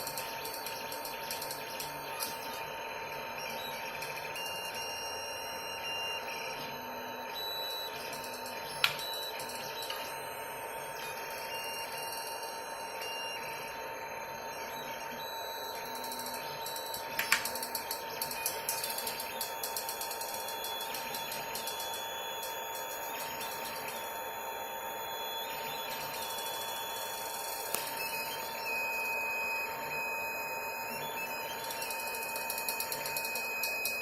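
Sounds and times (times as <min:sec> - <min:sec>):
printer humming: 0:00.0 - 0:34.0.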